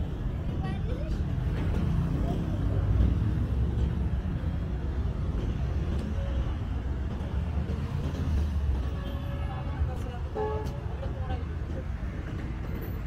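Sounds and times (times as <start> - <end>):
passing vehicles rumble: 0.0 - 13.0.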